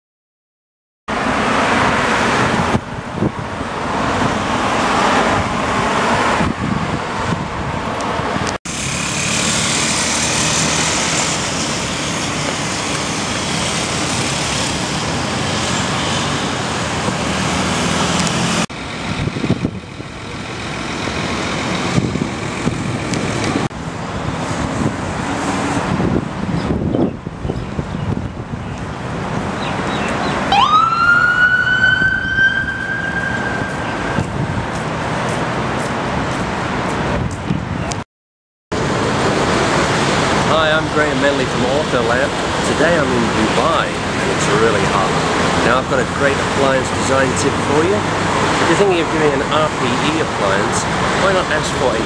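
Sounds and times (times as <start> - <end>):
vehicles passing: 1.1 - 38.0, 38.7 - 52.0.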